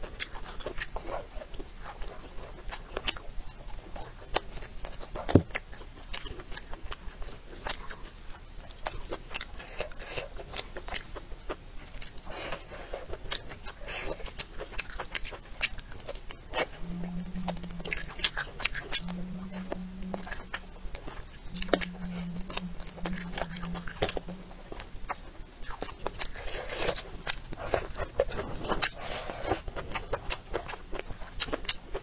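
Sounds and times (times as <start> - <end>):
chewing and lip-smacking: 0.0 - 32.0.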